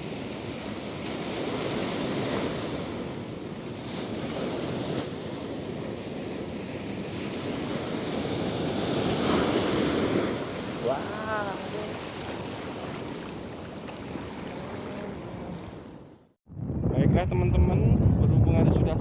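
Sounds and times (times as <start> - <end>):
sea surf washing in: 0.0 - 16.3
wind buffeting the microphone: 0.0 - 19.0.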